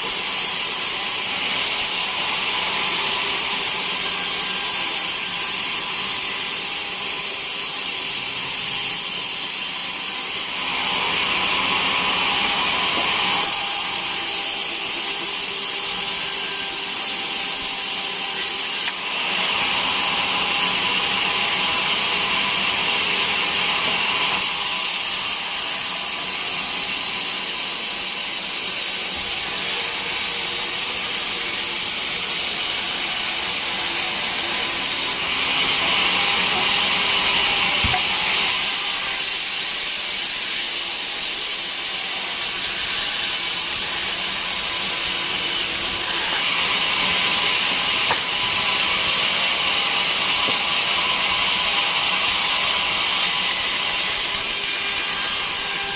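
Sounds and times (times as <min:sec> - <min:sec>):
band saw cutting log: 0:00.0 - 0:55.9.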